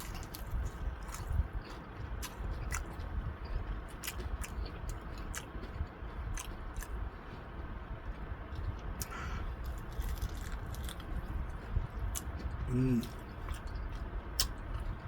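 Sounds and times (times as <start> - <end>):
chewing food: 0.0 - 15.0
low steady rumble: 0.0 - 15.0.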